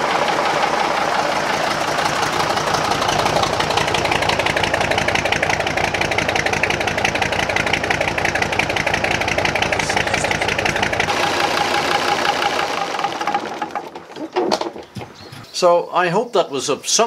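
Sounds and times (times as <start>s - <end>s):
diesel engine exhaust beat: 0.0s - 14.2s, 14.8s - 15.6s.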